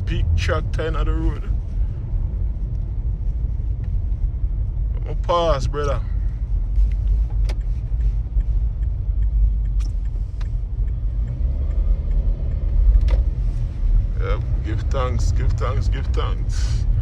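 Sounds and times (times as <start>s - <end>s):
car rumbling on snowy road: 0.0s - 17.0s.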